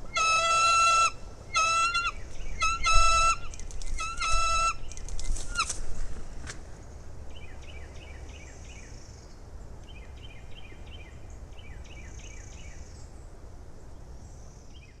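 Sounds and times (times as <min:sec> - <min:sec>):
low wind rumble on microphone: 0:00.0 - 0:14.9.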